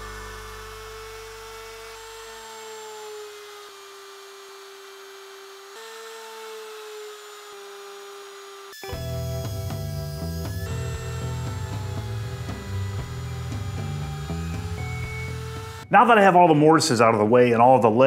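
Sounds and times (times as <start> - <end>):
mortiser motor whine cutting wood: 0.0 - 16.4.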